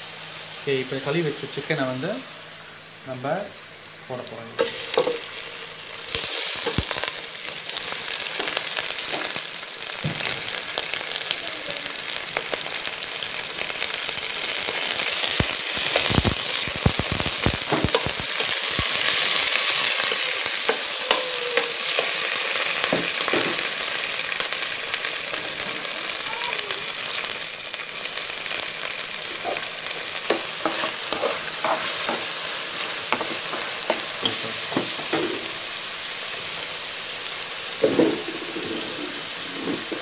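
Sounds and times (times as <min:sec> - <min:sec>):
chicken sizzling in a pot: 0:00.0 - 0:40.0.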